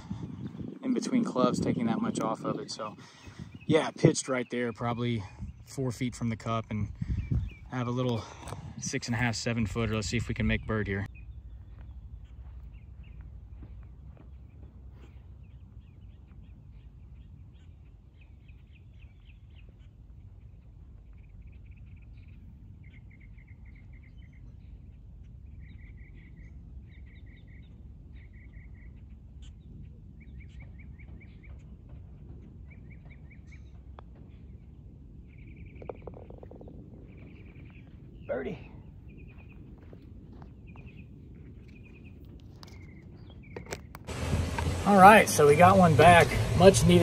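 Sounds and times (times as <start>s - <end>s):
birds trilling: 0.0s - 44.1s
low background rumble: 6.6s - 47.0s.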